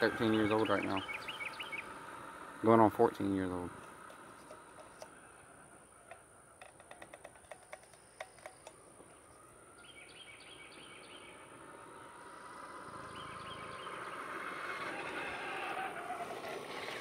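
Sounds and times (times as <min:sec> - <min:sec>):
vehicle approaching: 0:00.0 - 0:17.0.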